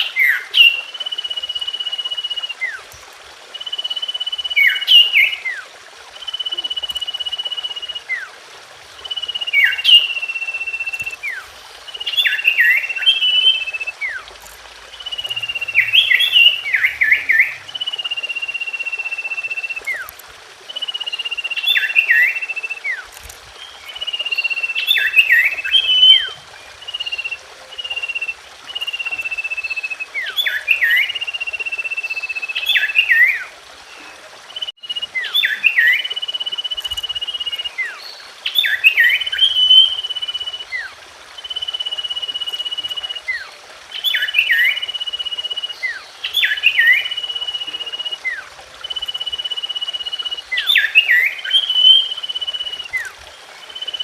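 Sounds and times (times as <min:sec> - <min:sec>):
bird whistling and chirping: 0:03.5 - 0:05.6, 0:06.2 - 0:08.3, 0:09.0 - 0:14.3, 0:14.9 - 0:20.1, 0:20.7 - 0:54.0.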